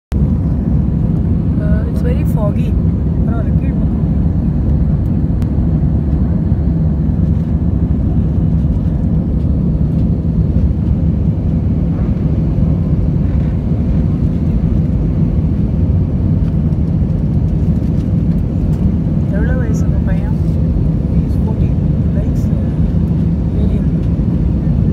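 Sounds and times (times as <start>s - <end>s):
jet cabin roar: 0.1s - 24.9s.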